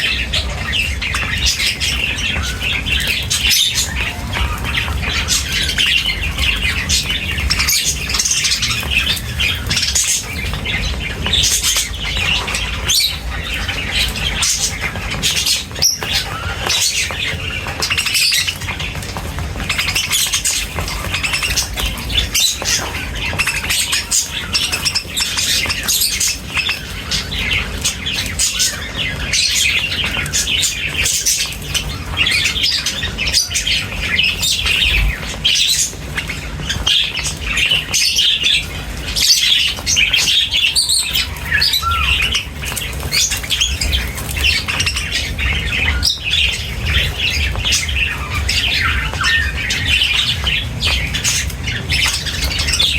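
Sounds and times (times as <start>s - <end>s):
birds chirping and squawking: 0.0s - 52.9s.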